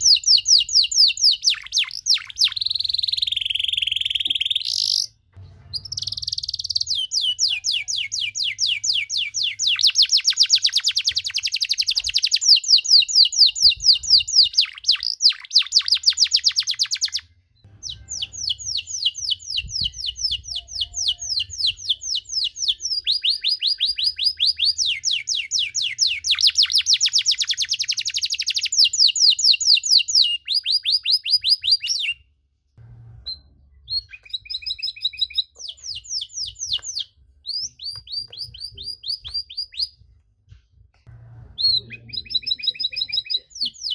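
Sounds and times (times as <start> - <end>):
canary singing rolling trills: 0.0 - 32.3, 33.2 - 40.0, 41.4 - 43.9.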